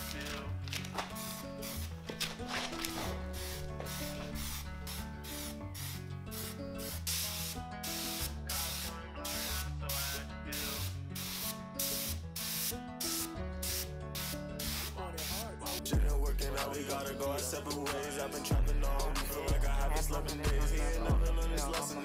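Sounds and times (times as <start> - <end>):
background music with beat and bass: 2.9 - 22.0.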